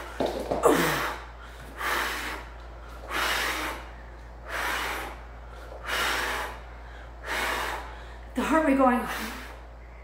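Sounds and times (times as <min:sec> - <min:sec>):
woman breathing hard: 0:00.0 - 0:08.4.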